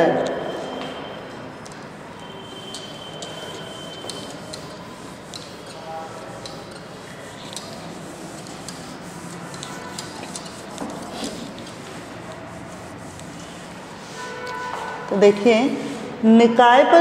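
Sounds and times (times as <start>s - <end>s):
cloth rubbing on a whiteboard: 1.8s - 16.3s.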